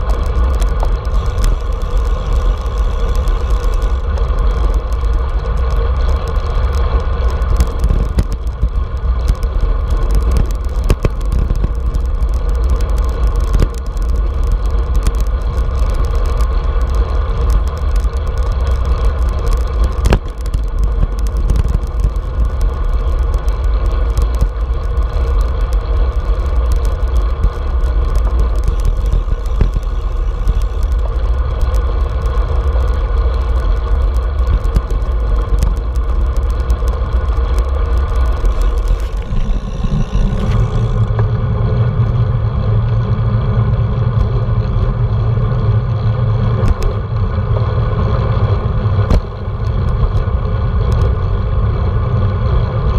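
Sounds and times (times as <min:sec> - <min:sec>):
bike tyres rolling on asphalt: 0:00.0 - 0:52.9
low hum: 0:00.0 - 0:52.9
wind buffeting microphone: 0:00.0 - 0:52.9.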